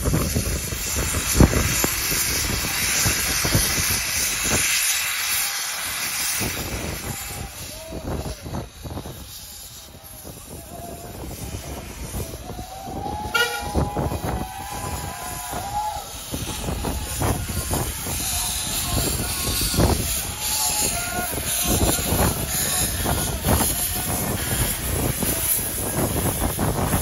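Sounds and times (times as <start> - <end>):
steam hissing: 0.0 - 27.0
steam locomotive exhaust chuffs: 0.0 - 27.0.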